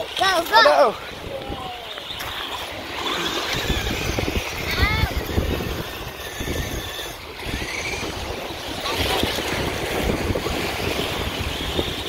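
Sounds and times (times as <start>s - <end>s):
small waves on shore: 0.0s - 12.0s
wind buffeting microphone: 0.0s - 12.0s.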